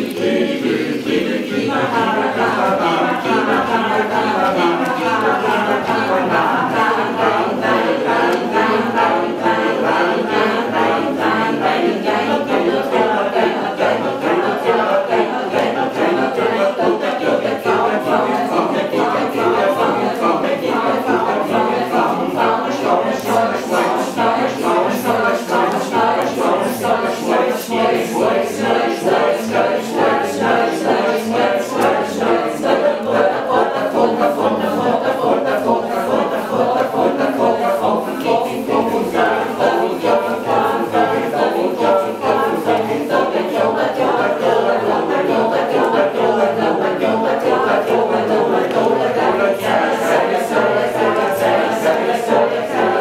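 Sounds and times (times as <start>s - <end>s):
a cappella choir singing: 0.0s - 53.0s.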